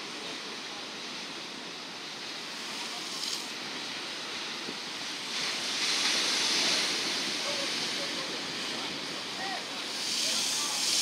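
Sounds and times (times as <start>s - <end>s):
sea surf against seawall: 0.0s - 11.0s
wave crashing and spraying: 0.0s - 11.0s.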